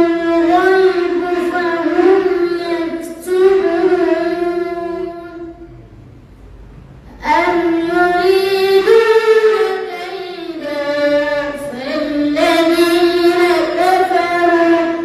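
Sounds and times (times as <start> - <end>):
boy chanting melodically: 0.0 - 5.8, 7.0 - 15.0.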